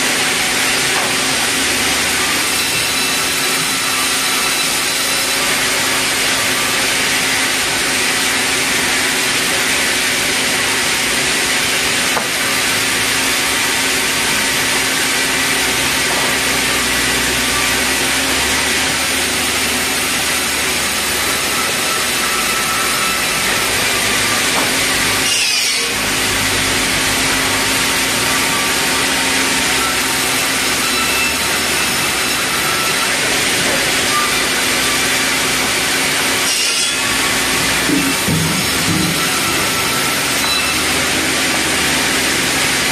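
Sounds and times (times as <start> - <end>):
band saw cutting timber: 0.0 - 42.9.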